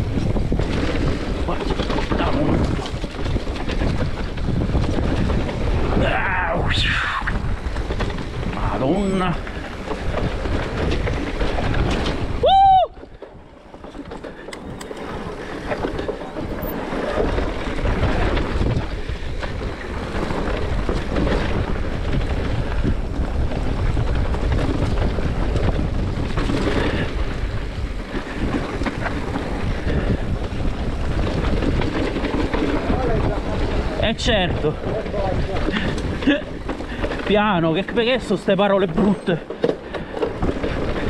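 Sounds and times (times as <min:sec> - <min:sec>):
bike rattling: 0:00.0 - 0:41.0
bike tyres rolling on dirt: 0:00.0 - 0:41.0
wind buffeting microphone: 0:00.0 - 0:41.0.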